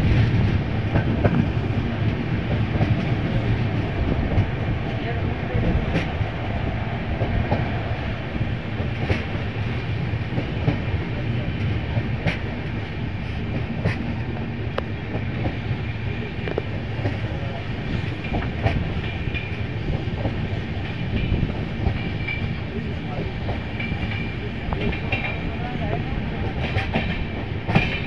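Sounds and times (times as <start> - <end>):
train wheels rumbling: 0.0 - 28.0.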